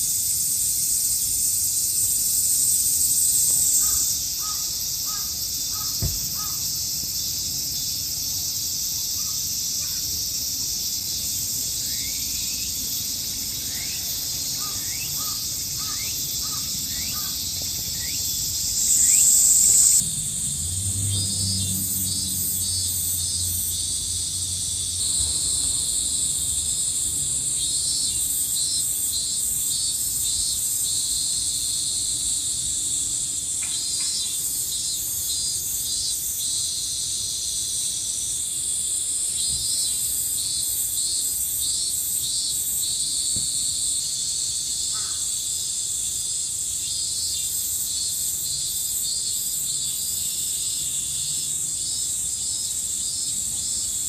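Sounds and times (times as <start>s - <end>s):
insect high-pitched buzz: 0.0s - 54.0s
rapidly pulsing insect calls: 0.0s - 54.0s.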